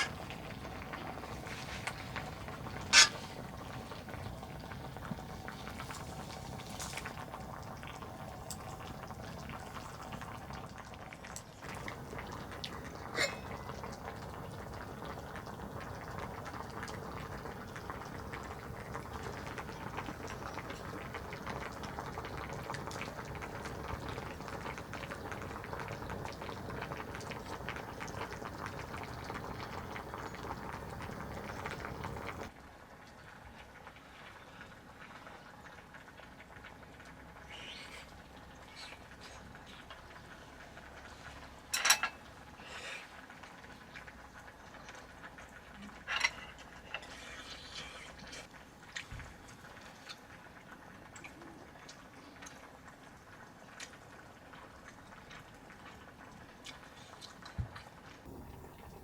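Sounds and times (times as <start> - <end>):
liquid boiling in a pot: 0.0 - 59.0.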